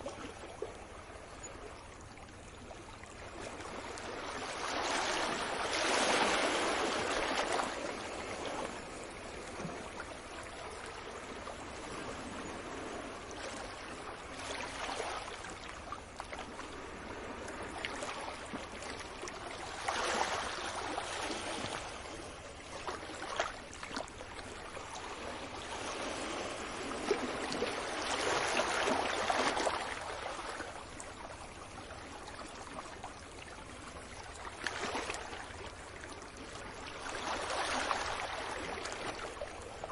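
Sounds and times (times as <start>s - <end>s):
sea waves washing on beach: 3.3s - 39.9s.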